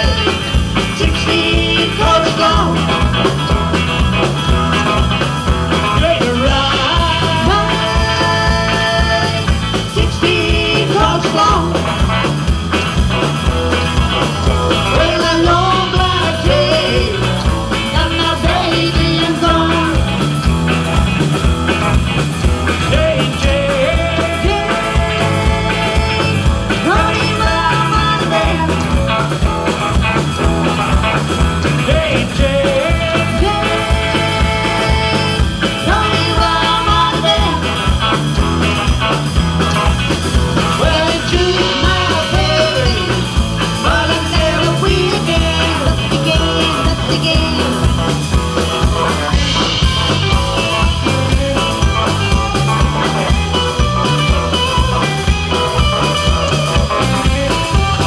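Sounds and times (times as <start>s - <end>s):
drum beat: 0.0s - 58.0s
electric guitar: 0.0s - 58.0s.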